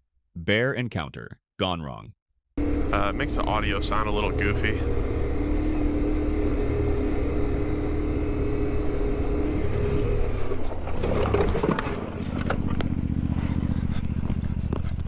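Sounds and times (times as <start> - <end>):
motorcycle engine droning: 2.6 - 15.0.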